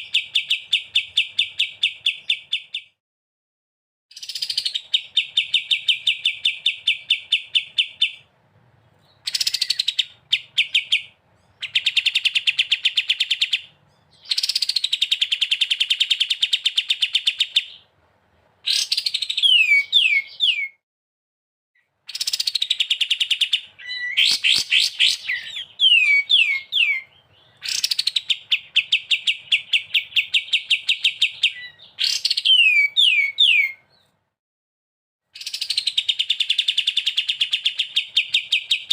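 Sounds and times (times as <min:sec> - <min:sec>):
songbird trilling: 0:00.0 - 0:03.0, 0:04.1 - 0:08.3, 0:09.1 - 0:17.9, 0:18.6 - 0:20.8, 0:22.1 - 0:34.1, 0:35.4 - 0:38.9.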